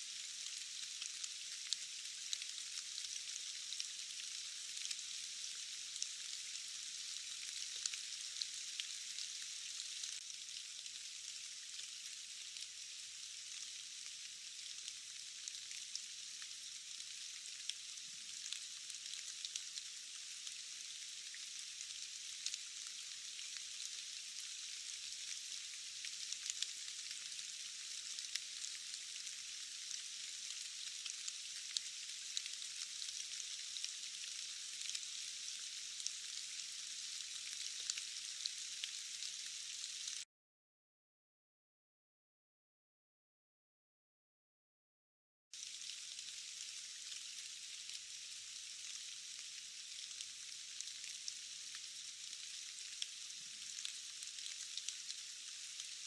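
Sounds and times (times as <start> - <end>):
rain falling on foliage: 0.0 - 40.2, 45.6 - 56.0.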